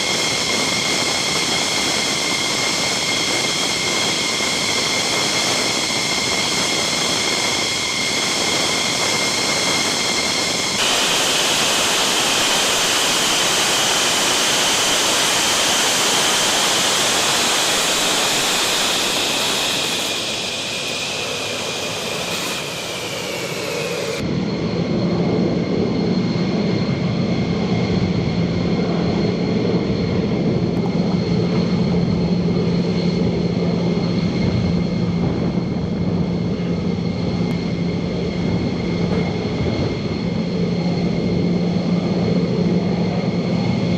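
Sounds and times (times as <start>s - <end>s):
jet engine whine and roar: 0.0s - 43.9s
low engine drone: 0.0s - 43.9s.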